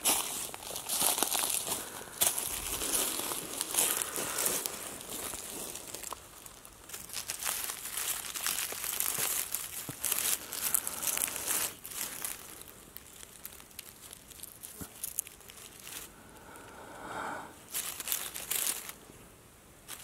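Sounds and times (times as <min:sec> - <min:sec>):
dry leaves rustling and crackling: 0:00.0 - 0:16.6, 0:17.6 - 0:19.0.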